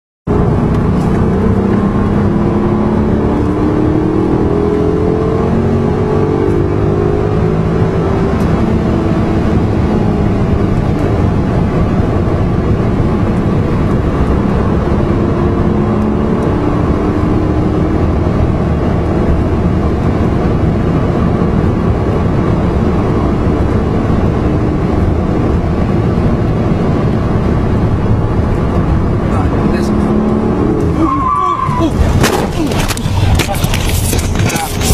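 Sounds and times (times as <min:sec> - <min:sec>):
car engine accelerating: 0:00.3 - 0:34.9
wind and road noise: 0:00.3 - 0:34.9.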